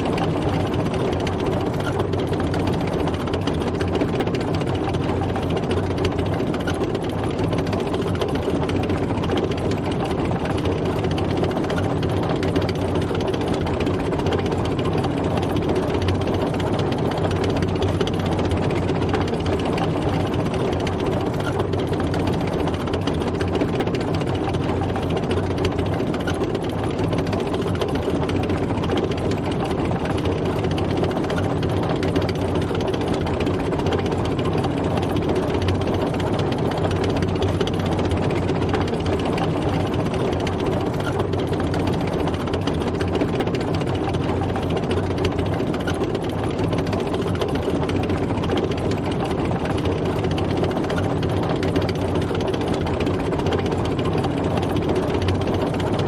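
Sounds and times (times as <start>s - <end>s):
tank engine running: 0.0s - 56.0s.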